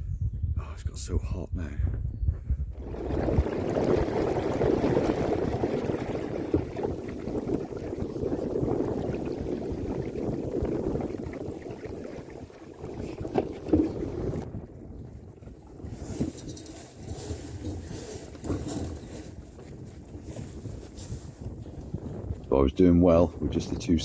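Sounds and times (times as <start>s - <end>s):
water rushing along hull: 2.7s - 24.0s.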